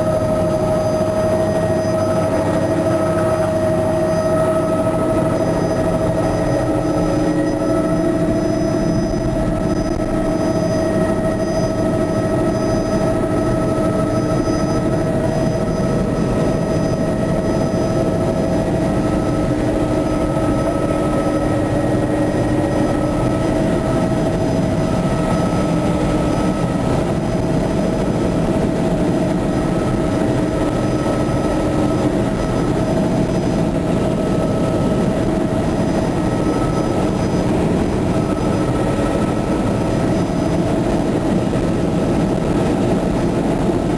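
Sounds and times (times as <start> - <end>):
helicopter turbine and rotors: 0.0 - 43.9.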